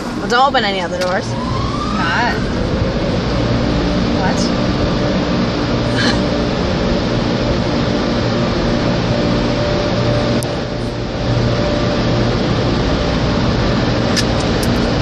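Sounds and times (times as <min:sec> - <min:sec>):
car wash machinery rushing: 0:00.0 - 0:15.0
low hum: 0:00.0 - 0:15.0.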